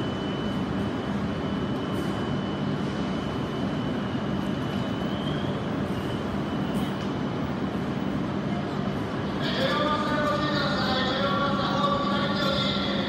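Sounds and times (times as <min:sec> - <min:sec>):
railway machinery rushing hum: 0:00.0 - 0:13.0.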